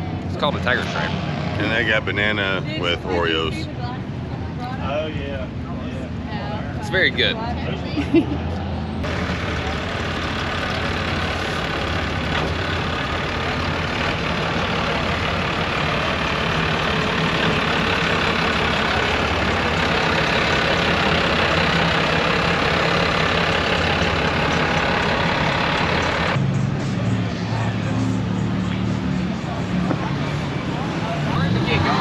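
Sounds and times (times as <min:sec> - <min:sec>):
traffic noise rushing: 0:00.0 - 0:32.0
vehicle engine idling: 0:00.0 - 0:32.0.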